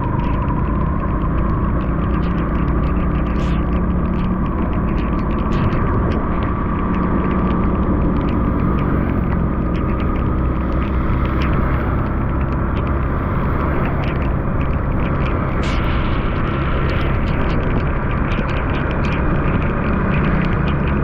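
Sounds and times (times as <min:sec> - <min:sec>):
faint steady whine: 0:00.0 - 0:21.0
small ticks: 0:00.0 - 0:21.0
vehicle engine low rumble: 0:00.0 - 0:21.0.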